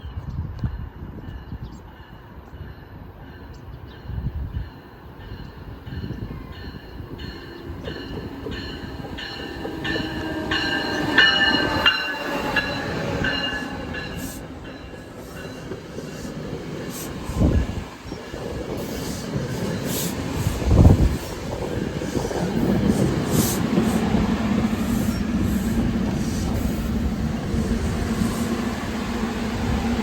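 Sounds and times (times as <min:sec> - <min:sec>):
train wheels clicking over rail joints: 0:05.9 - 0:30.0.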